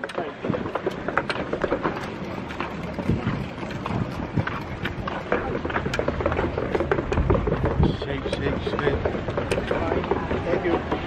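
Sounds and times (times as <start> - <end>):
carried gear knocking: 0.0 - 11.0
walking footsteps: 0.0 - 11.0
wind rumble: 0.0 - 11.0.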